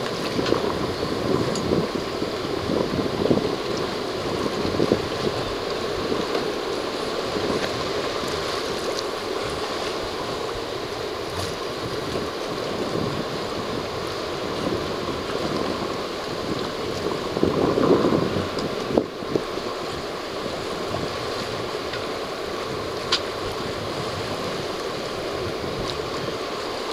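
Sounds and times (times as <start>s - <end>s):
water rushing along hull: 0.0s - 26.9s
wind noise on microphone: 0.0s - 26.9s.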